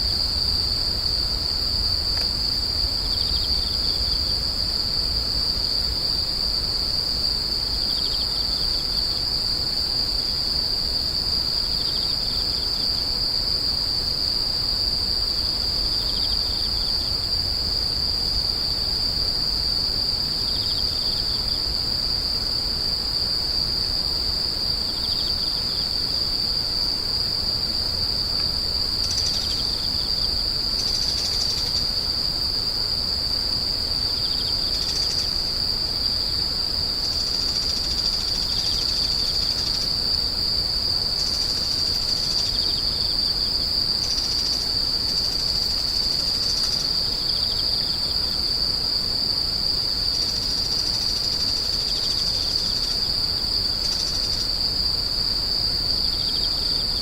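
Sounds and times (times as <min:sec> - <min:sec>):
high-pitched insect trill: 0:00.0 - 0:57.0
lower insect call: 0:00.0 - 0:57.0.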